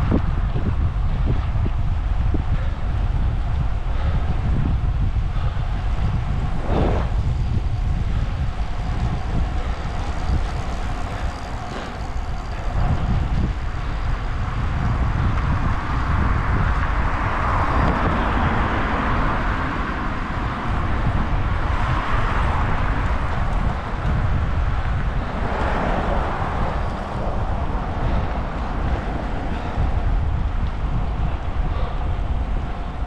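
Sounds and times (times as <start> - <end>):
road noise: 0.0 - 33.0
wind rushing over microphone: 0.0 - 33.0.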